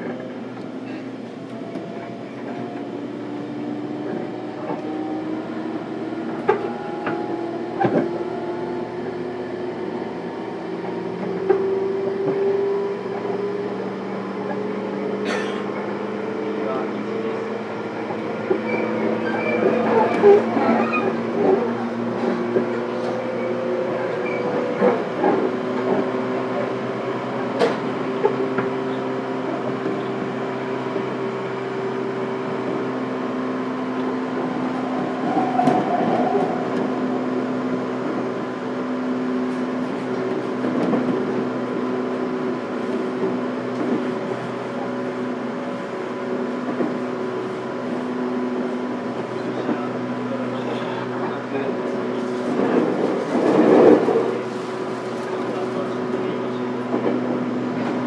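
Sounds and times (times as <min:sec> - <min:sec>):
train car hum with tones: 0:00.0 - 0:58.0.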